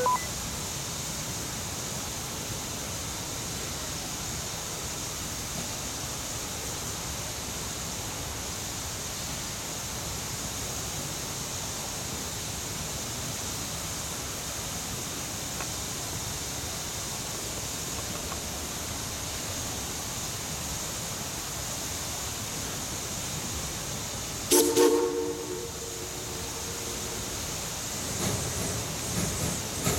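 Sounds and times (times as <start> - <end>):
steam locomotive hissing: 0.4 - 29.9.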